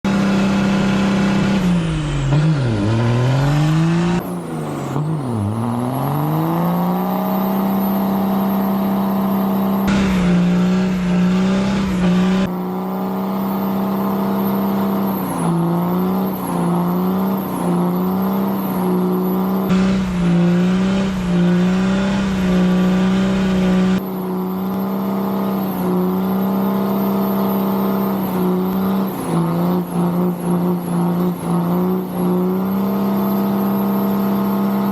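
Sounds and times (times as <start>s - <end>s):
engine at full throttle bogging down: 0.0s - 34.9s.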